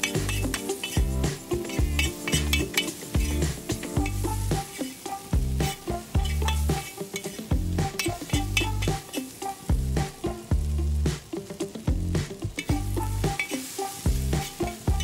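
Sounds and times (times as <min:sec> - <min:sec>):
metal spatula scraping a pan: 0:00.0 - 0:10.5, 0:12.5 - 0:15.0
background music with deep bass: 0:00.0 - 0:15.0
meat sizzling on a pan: 0:00.0 - 0:15.0.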